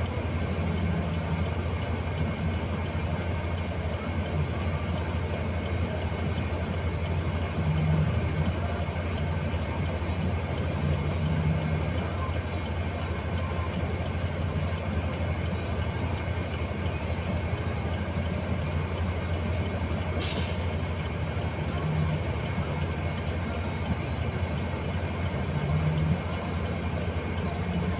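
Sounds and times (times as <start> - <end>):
diesel truck engine idling: 0.0 - 27.9.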